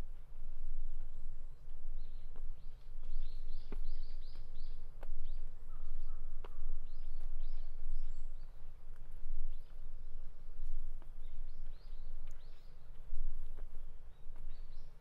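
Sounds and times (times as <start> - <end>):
footsteps on path: 0.0 - 15.0
songbird chirping: 0.0 - 15.0
steady low rumble: 0.0 - 15.0.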